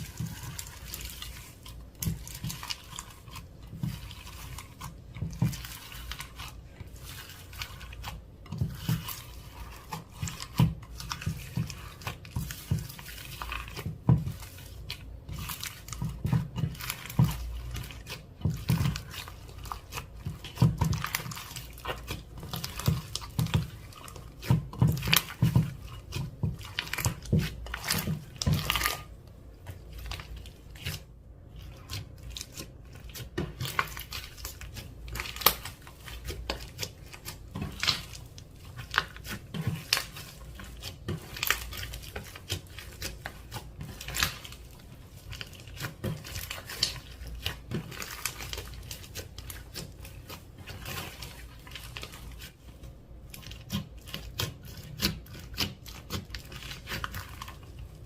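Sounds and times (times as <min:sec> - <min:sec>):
slime squelching and crackling: 0:00.0 - 0:58.0.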